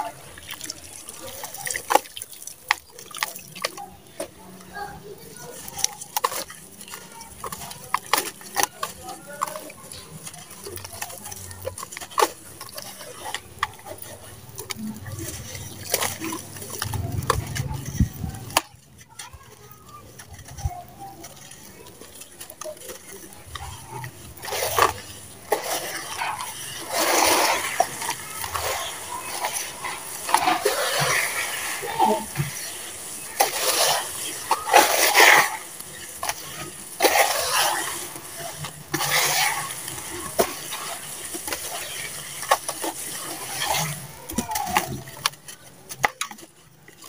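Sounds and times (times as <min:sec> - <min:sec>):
grit clicks: 0:00.0 - 0:47.0
wet mud crunching and squelching: 0:00.0 - 0:47.0.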